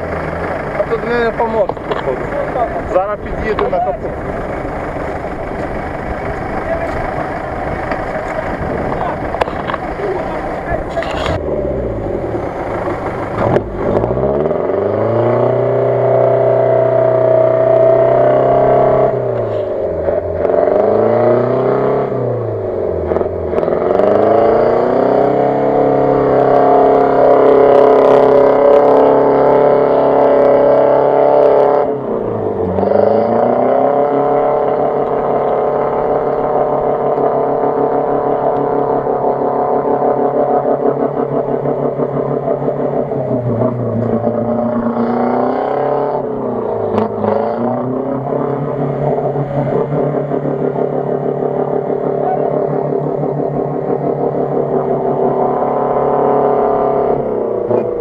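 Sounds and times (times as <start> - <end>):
off-road vehicle engine revving hard: 0.0 - 58.0.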